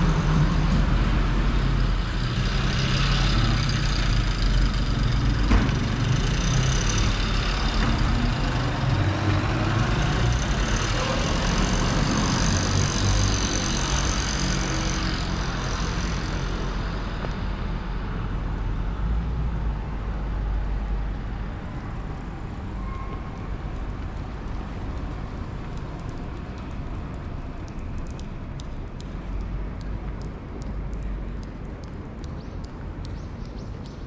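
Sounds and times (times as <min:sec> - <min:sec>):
road traffic hum: 0:00.0 - 0:34.0.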